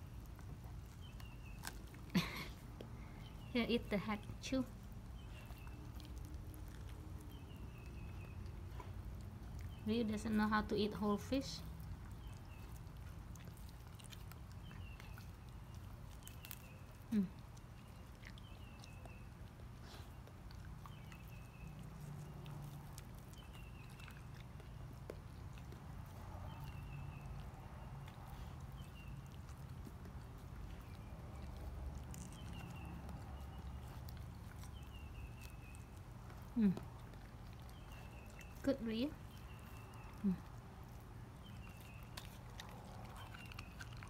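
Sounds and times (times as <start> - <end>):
dog chewing wetly: 0.0 - 44.0.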